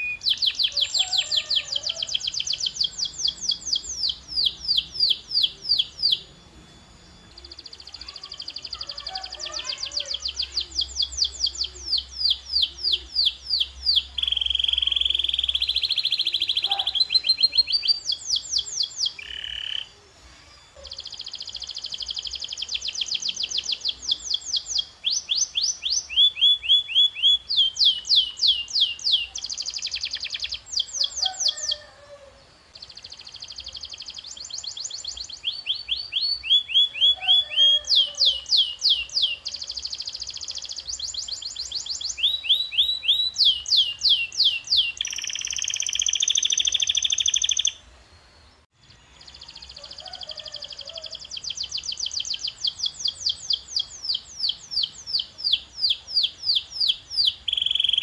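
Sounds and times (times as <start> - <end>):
canary singing: 0.0 - 47.9, 48.8 - 58.0.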